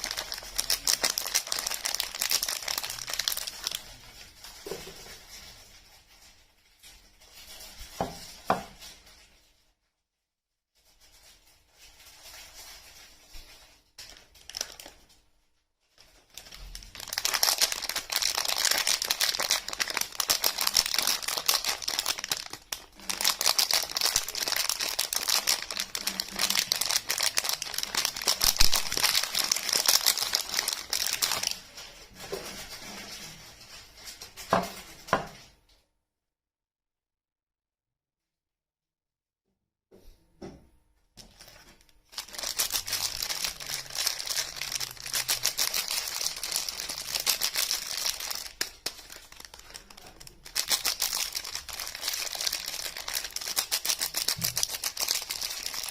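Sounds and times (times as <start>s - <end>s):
soap wrapping crinkling: 0.0s - 9.3s, 11.1s - 15.3s, 15.9s - 35.0s, 41.2s - 55.9s.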